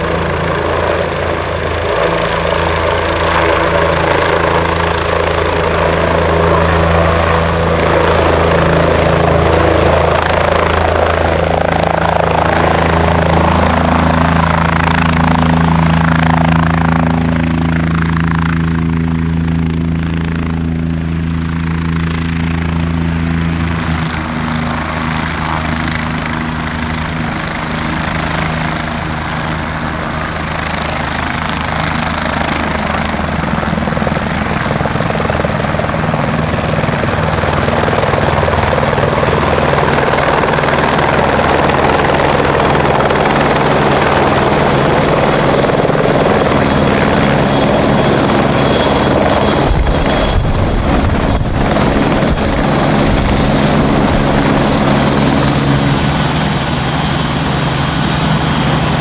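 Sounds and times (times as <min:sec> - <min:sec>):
helicopter hovering low: 0:00.0 - 0:59.0
helicopter rotor hum and turbine: 0:00.0 - 0:59.0.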